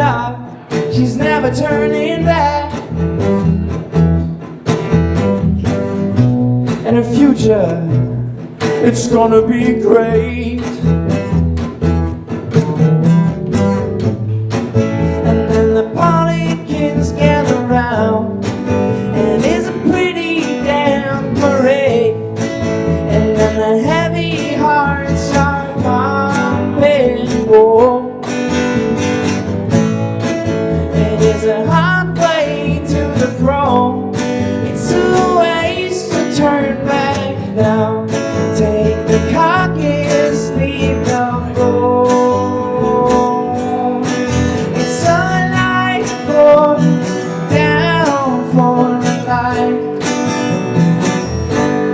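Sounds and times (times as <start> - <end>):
acoustic guitar strumming: 0.0 - 51.9.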